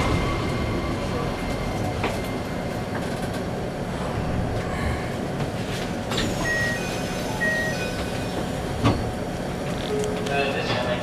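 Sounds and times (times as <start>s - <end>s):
train interior hum: 0.0s - 11.0s.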